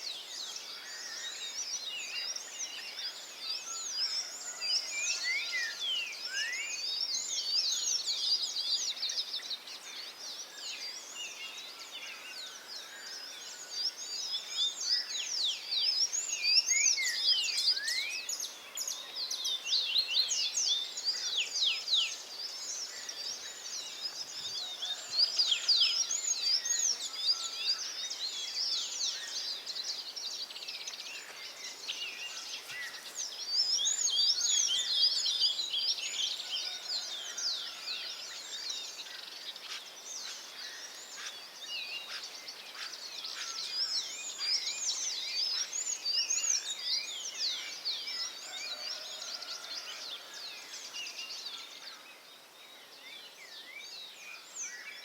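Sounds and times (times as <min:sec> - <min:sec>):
small birds chirping: 0:05.8 - 0:37.3, 0:38.0 - 0:55.0.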